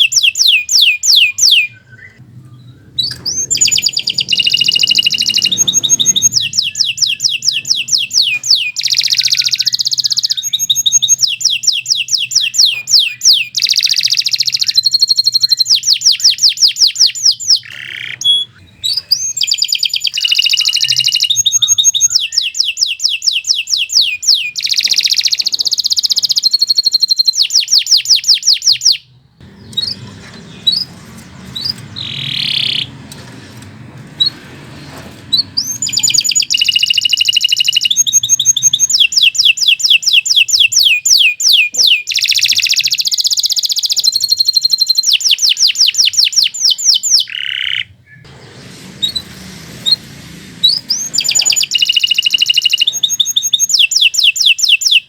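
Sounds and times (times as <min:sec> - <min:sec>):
canary singing trills: 0:00.0 - 0:33.2, 0:35.3 - 0:55.0.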